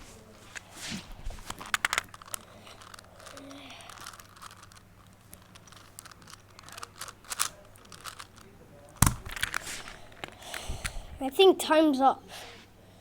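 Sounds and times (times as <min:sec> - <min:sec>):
handling clicks and rustles: 0:00.2 - 0:11.0.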